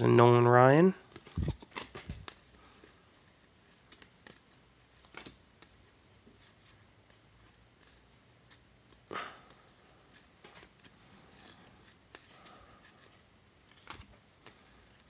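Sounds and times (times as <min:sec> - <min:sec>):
cards ticking and rustling: 0:01.1 - 0:15.0.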